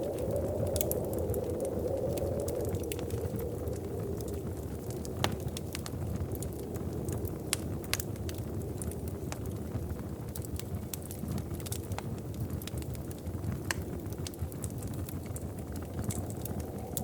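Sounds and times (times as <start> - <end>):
fire pops and snaps: 0.0 - 17.0
fireplace fire crackling: 0.0 - 17.0.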